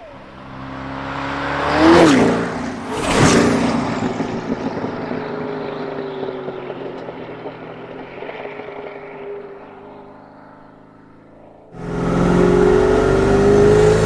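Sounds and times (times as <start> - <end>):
car engine passing loudly: 0.0 - 14.0.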